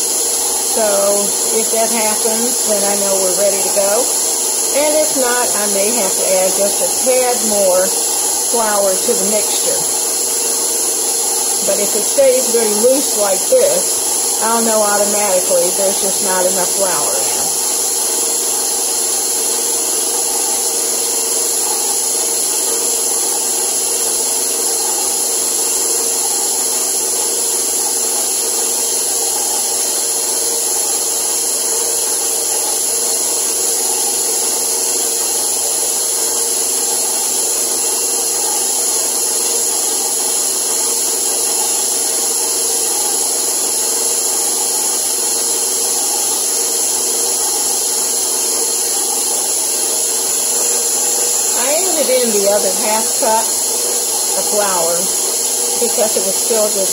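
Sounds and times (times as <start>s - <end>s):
stand mixer kneading dough: 0.0s - 56.9s.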